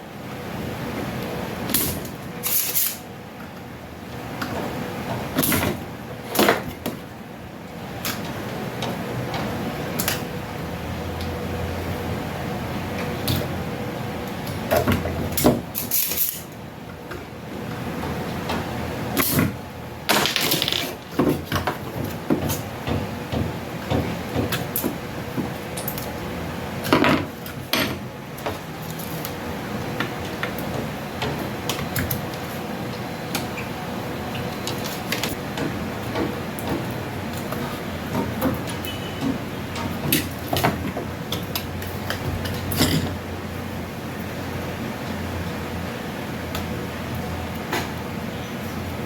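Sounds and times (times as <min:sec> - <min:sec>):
steady background hum: 0:00.0 - 0:49.0.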